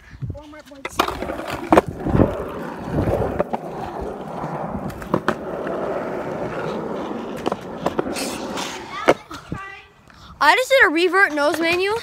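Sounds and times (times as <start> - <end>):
skateboard wheels rolling on concrete: 0.3 - 12.0
skateboard clacking on ground: 0.5 - 9.6, 11.2 - 12.0.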